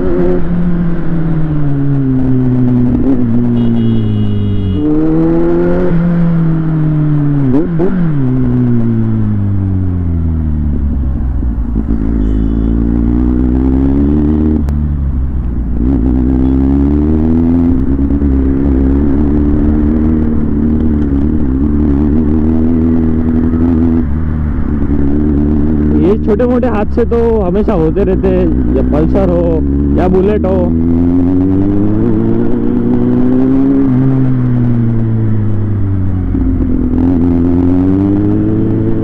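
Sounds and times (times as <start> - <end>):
motorcycle engine running: 6.3 - 39.0.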